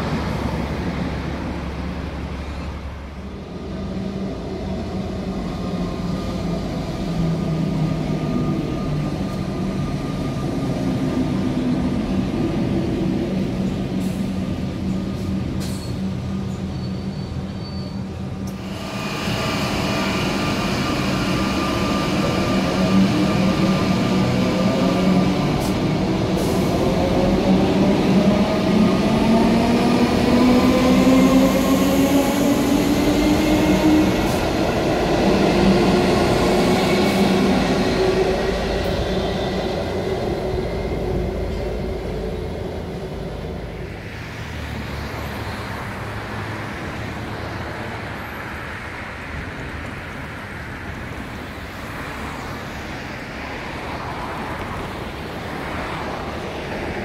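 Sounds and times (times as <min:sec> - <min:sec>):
train rumble: 0:00.0 - 0:57.0.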